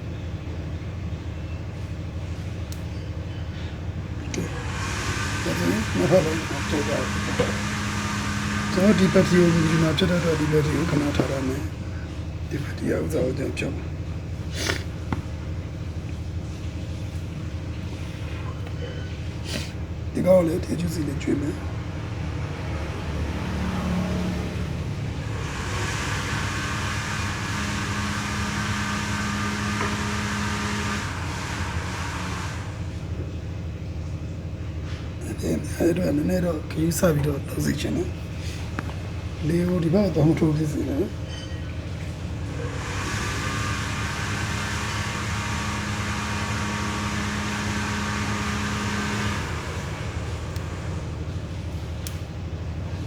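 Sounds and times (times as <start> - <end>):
hot air gun blowing with a hum: 3.5 - 34.0, 37.1 - 53.0.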